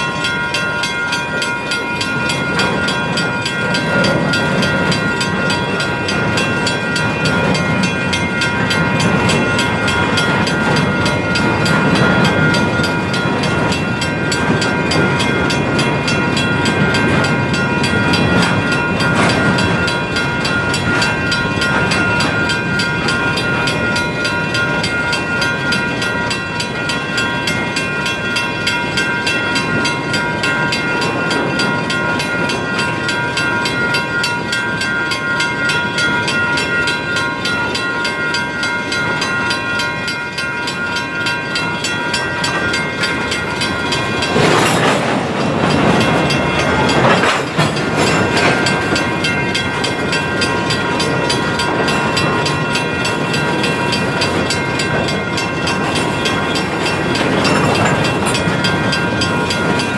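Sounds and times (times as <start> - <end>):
steel wheels clacking over rail joints: 0.0 - 59.9
train cars rumbling: 0.0 - 59.9.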